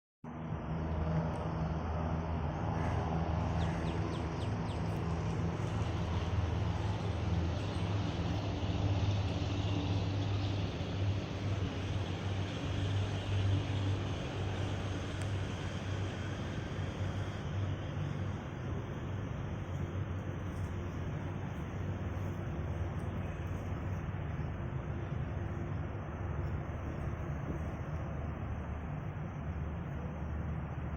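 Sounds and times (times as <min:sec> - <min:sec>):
engine humming: 0:00.3 - 0:30.9.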